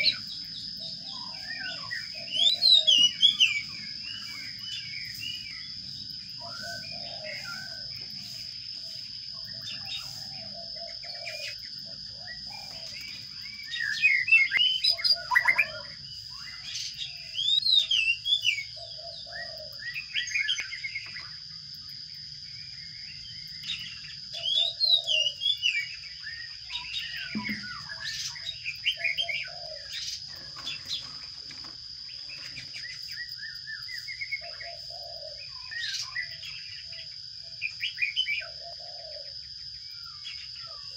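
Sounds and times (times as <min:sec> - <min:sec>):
constant high-pitched whine: 0:00.0 - 0:40.9
sparrows chirping: 0:00.0 - 0:40.9.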